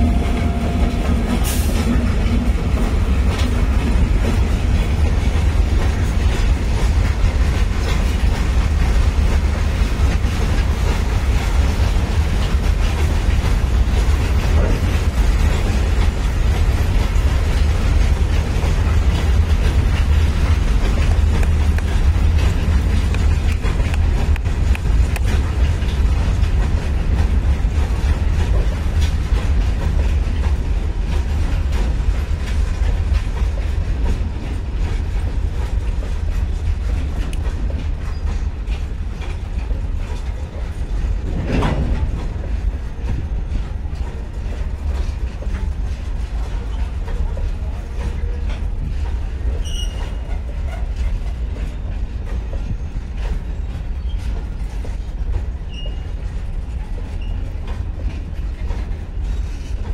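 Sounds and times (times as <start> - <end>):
freight train rumbling: 0.0 - 59.9
wheels clattering over rail joints: 0.0 - 59.9.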